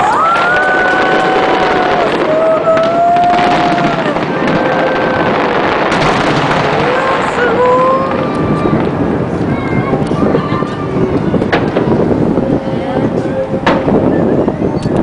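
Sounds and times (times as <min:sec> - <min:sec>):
fireworks bursting and crackling: 0:00.0 - 0:14.4.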